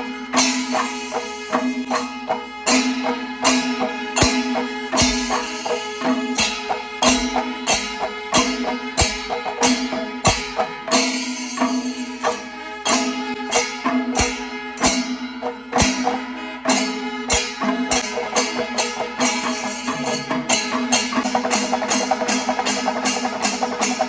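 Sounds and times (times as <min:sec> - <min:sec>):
drum and cymbal strokes: 0:00.0 - 0:24.0.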